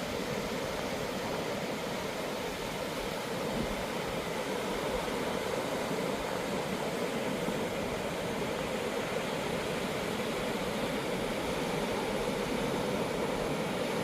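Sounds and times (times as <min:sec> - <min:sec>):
ocean surf washing on beach: 0:00.0 - 0:14.0.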